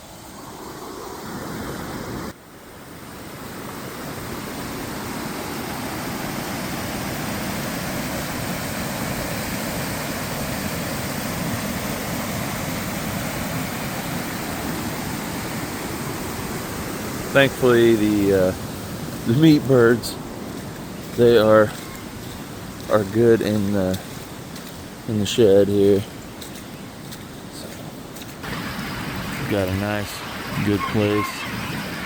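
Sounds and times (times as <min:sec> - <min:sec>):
rushing floodwater: 0:00.0 - 0:32.0.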